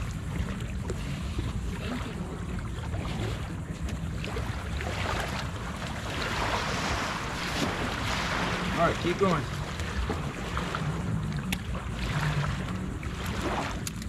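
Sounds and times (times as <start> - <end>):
lapping shallow water: 0.0 - 14.0.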